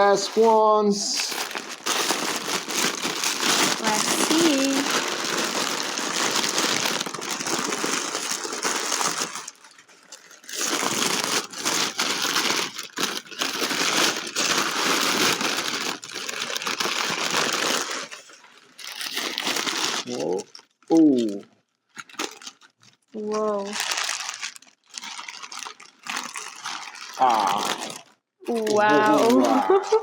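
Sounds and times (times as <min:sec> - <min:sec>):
wrapping crinkling: 0:00.0 - 0:30.0.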